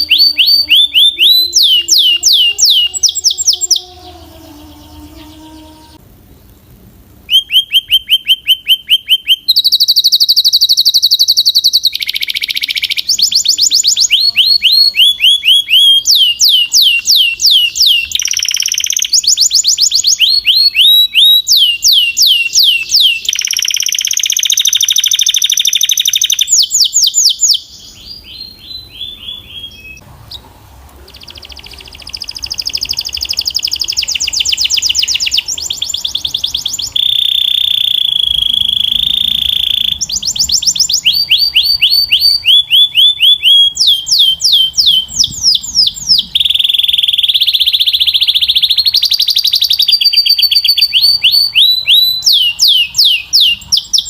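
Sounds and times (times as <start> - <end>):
canary singing trills: 0.0 - 6.0, 7.3 - 54.0.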